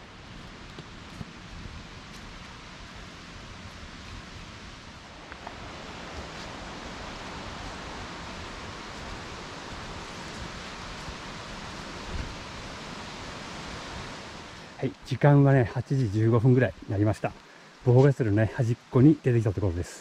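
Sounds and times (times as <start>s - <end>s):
steady rushing outdoor noise: 0.0s - 20.0s.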